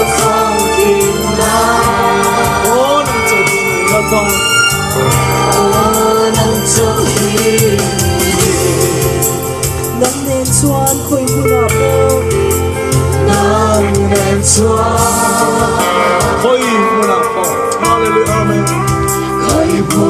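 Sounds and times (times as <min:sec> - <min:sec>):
group singing gospel song: 0:00.0 - 0:11.2, 0:12.9 - 0:17.3, 0:19.2 - 0:20.0
bass notes: 0:00.0 - 0:20.0.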